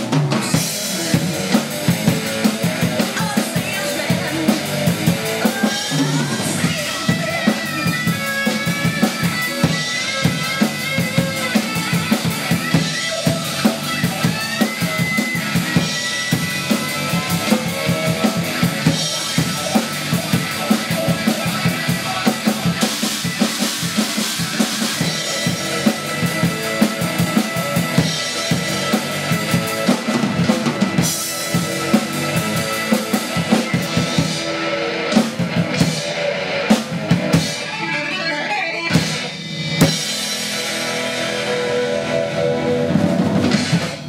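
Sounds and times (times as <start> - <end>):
acoustic drum kit playing: 0.0 - 44.0
rock music with electric guitar: 0.0 - 44.0.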